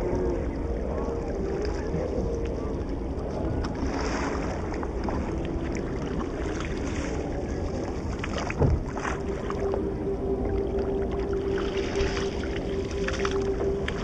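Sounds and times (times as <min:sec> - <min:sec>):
water lapping against boat hull: 0:00.0 - 0:14.0
wind on microphone: 0:00.0 - 0:14.0.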